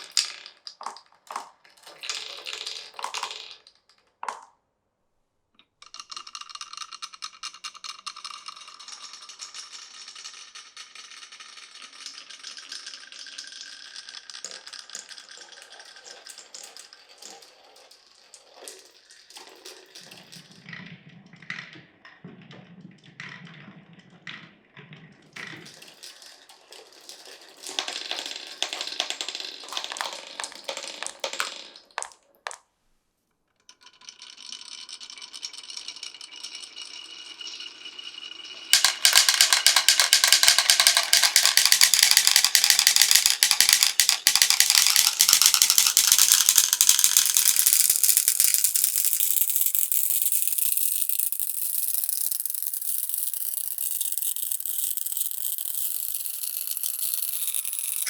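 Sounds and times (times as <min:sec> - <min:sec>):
loud clatter of many marbles: 0:00.0 - 0:04.5, 0:05.8 - 0:18.1, 0:25.4 - 0:32.6, 0:33.7 - 0:58.0
marbles rolling on a marble run: 0:00.0 - 0:04.5, 0:05.8 - 0:32.6, 0:33.6 - 0:58.0.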